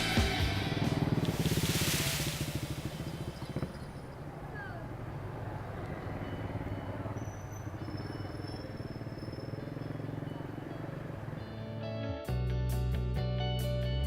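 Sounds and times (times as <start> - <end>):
scooter engine running: 0.0 - 11.8.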